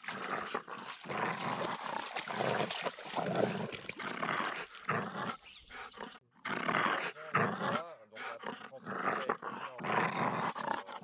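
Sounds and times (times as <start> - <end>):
dog growling: 0.0 - 11.0.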